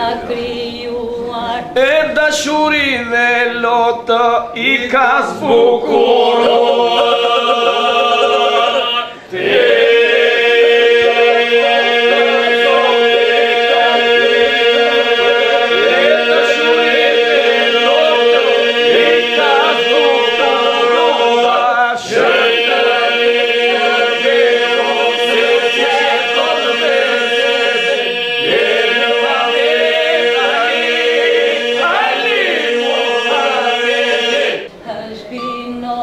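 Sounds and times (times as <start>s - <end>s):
group singing devotional song: 0.0s - 2.4s, 4.6s - 34.8s.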